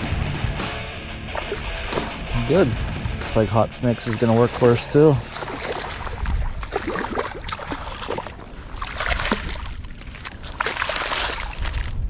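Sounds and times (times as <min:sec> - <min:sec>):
water splashing and sloshing: 0:01.2 - 0:12.0.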